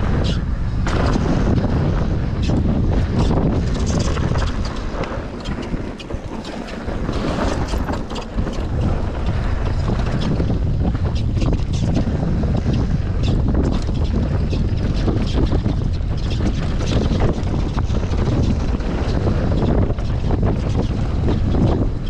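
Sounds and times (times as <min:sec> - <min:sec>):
tyres rumbling on dirt trail: 0:00.0 - 0:22.0
wind buffeting microphone: 0:00.0 - 0:22.0
bike clicks and rattles: 0:00.1 - 0:22.0.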